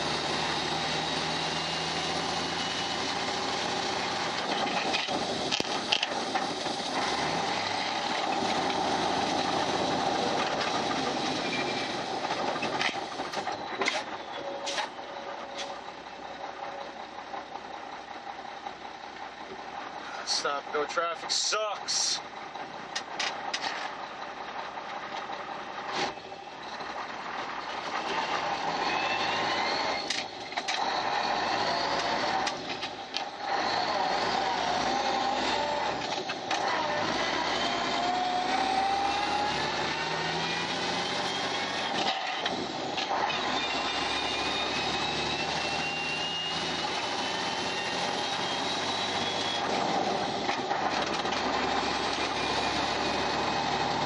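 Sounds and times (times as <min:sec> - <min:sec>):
diesel truck engine accelerating: 0:00.0 - 0:54.0.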